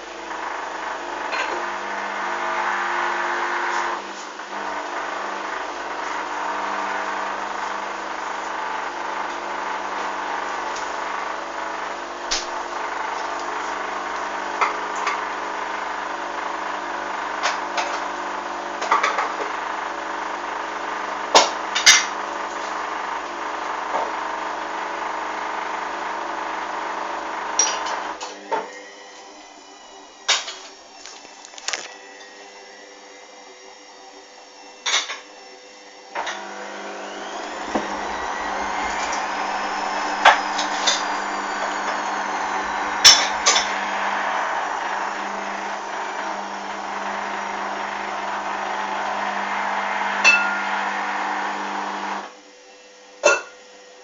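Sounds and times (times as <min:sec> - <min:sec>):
washing machine motor hum: 0:00.0 - 0:53.8.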